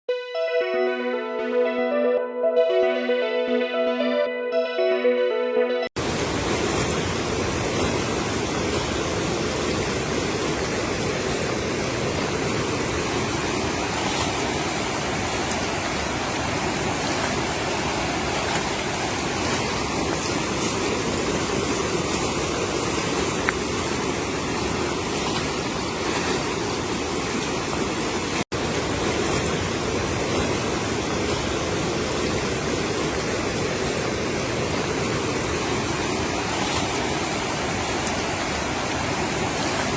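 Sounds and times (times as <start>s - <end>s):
floodwater rushing: 6.0s - 39.9s.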